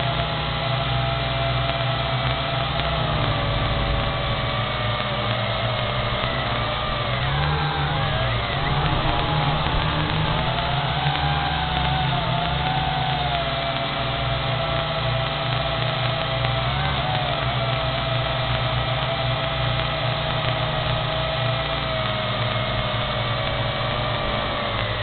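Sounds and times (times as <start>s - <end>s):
drone propellers whining: 0.0s - 25.0s.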